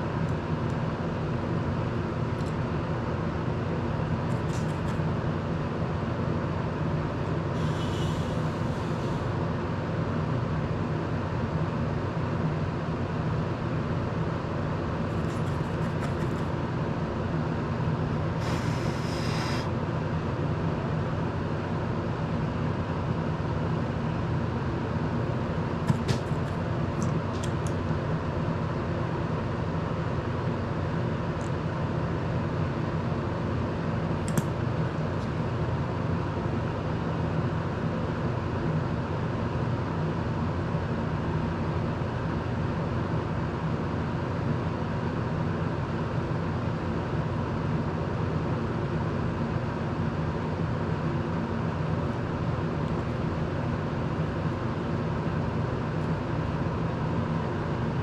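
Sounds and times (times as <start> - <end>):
desk fan whirring: 0.0 - 58.0.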